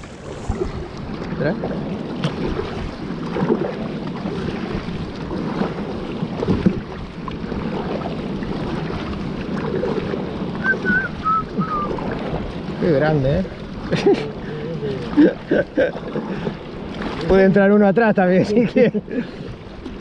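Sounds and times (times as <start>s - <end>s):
wind buffeting microphone: 0.0s - 17.7s
water sloshing against hull: 0.0s - 20.0s.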